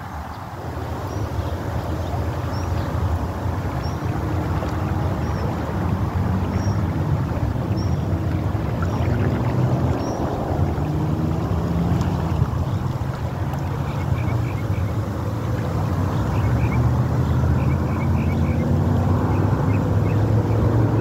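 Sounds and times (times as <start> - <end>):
fast-running water: 0.0 - 21.0
wind on microphone: 0.0 - 21.0.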